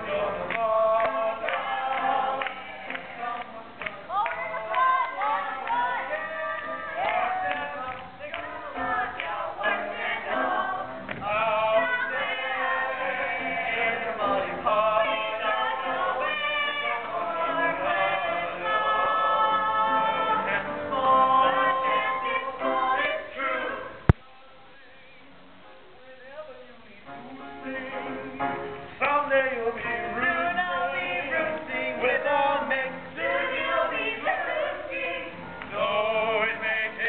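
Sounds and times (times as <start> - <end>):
group of voices singing: 0.0 - 24.2, 27.4 - 37.0.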